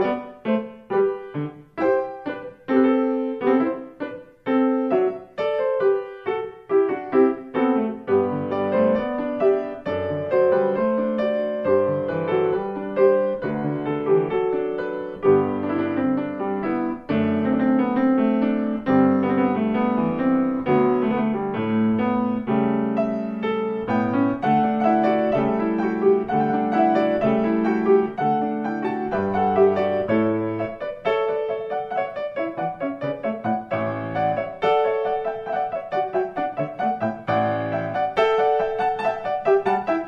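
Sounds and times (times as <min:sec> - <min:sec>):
piano music: 0:00.0 - 0:40.0.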